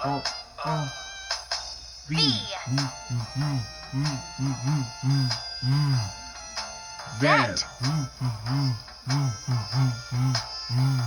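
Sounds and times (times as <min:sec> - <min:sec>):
bouncy children's music: 0:00.0 - 0:11.0.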